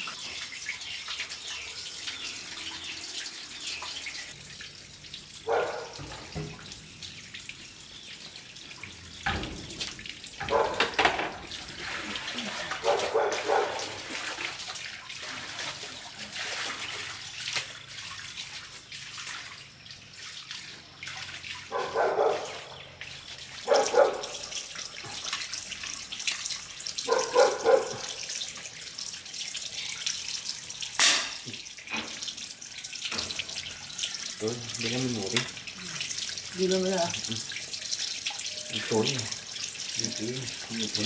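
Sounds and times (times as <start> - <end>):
water running into a basin: 0.0 - 41.0.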